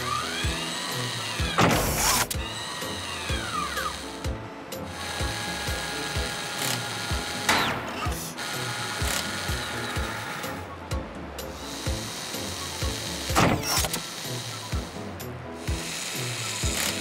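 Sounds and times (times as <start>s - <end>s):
clicking machinery: 0.0s - 10.8s, 11.4s - 17.0s
background music with low beat: 0.0s - 17.0s.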